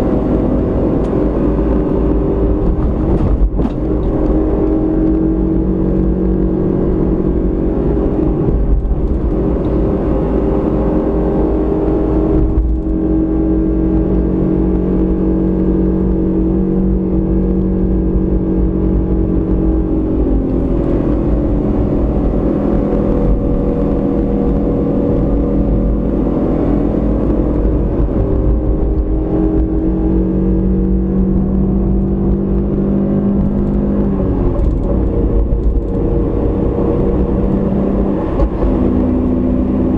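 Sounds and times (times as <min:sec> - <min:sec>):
car engine drone: 0:00.0 - 0:39.9
low tyre rumble: 0:00.0 - 0:39.9.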